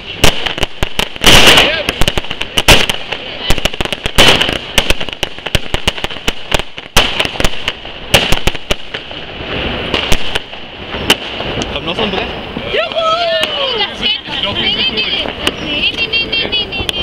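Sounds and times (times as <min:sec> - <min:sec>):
firework bangs and pops: 0:00.0 - 0:17.0.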